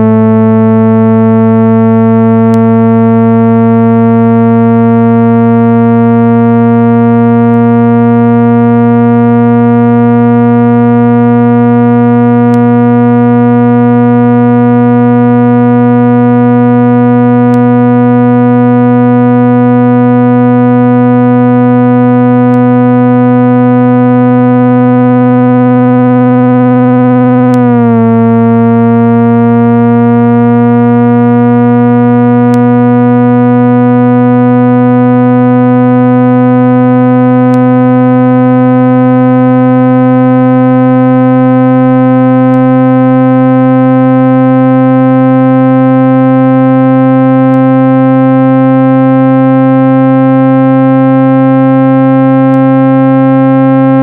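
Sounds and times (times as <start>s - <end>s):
synthesized buzzing tone: 0.0s - 54.0s.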